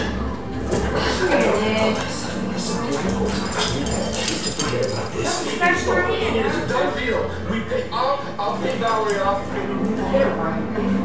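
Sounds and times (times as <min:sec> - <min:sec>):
television music: 0:00.0 - 0:11.0.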